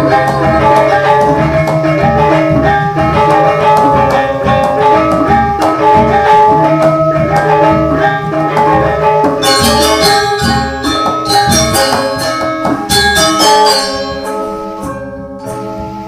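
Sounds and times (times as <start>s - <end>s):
tuned metal percussion music: 0.0s - 16.0s.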